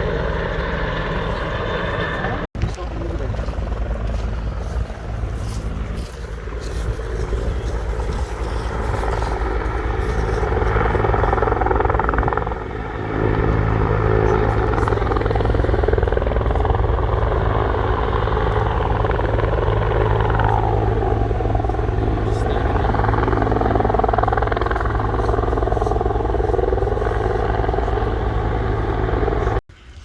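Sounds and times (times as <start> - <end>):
helicopter rotor: 0.0 - 29.6.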